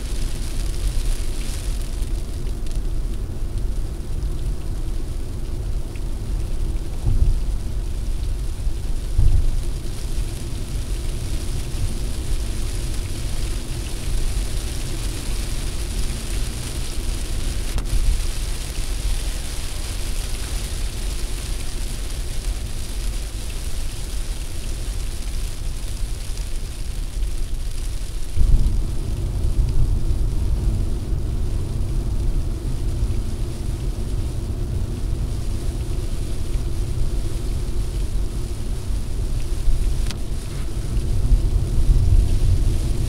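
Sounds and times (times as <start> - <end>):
rain on windscreen: 0.0 - 43.0.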